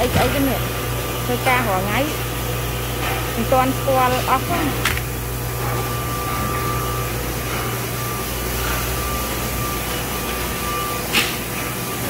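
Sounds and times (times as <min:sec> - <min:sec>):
factory machinery hum: 0:00.0 - 0:12.0
thin steady whine: 0:00.0 - 0:12.0.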